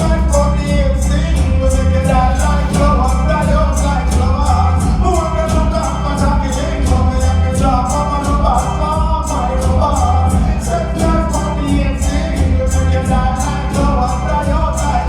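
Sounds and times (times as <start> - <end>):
latin music with singing: 0.0 - 15.0.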